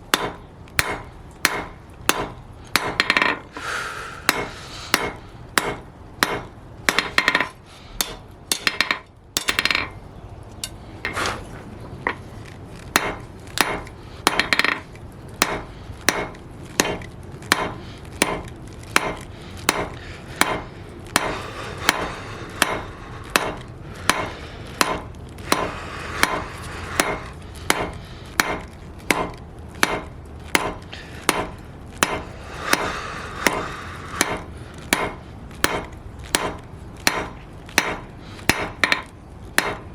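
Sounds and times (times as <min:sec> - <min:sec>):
hammer striking steel on anvil: 0:00.1 - 0:03.6, 0:04.2 - 0:10.0, 0:13.0 - 0:14.8, 0:15.4 - 0:39.9.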